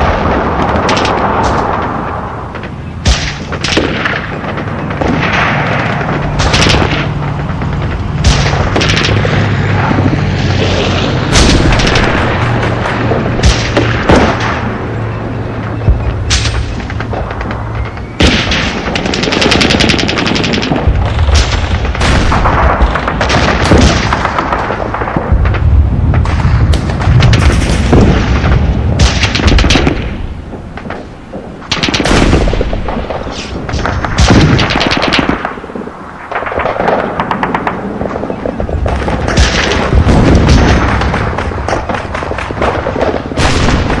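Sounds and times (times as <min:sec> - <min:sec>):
machine-gun fire: 0:00.0 - 0:31.0, 0:31.6 - 0:44.0
explosions booming: 0:00.0 - 0:44.0
gunshots: 0:00.0 - 0:44.0.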